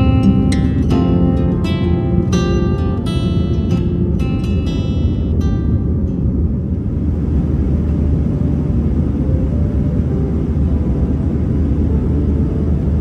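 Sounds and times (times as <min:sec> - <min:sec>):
jet engines rumbling: 0:00.0 - 0:13.0
rushing air: 0:00.0 - 0:13.0.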